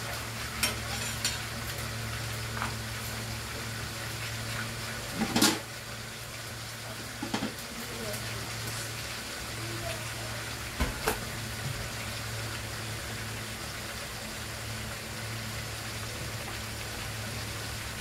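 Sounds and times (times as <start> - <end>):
chicken sizzling in a wok: 0.0 - 18.0.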